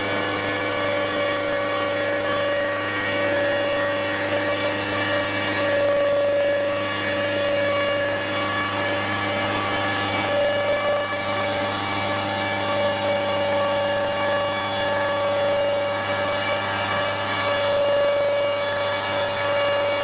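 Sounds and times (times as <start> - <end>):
stone router spindle whining: 0.0 - 20.0.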